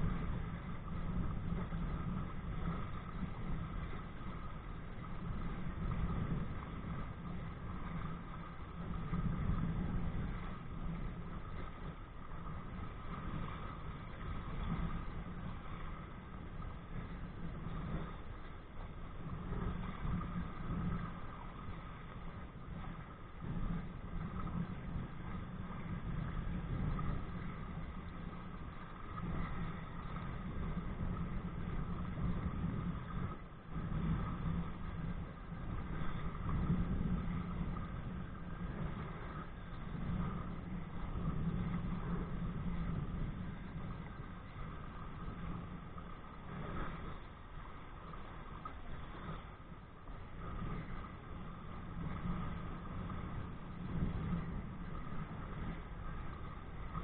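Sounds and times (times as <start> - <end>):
water noise: 0.0 - 57.0
wind noise on microphone: 0.0 - 57.0.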